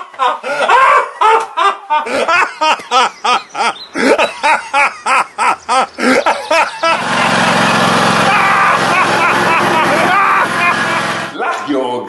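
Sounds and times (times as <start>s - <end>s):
man laughing heartily: 0.0s - 11.2s.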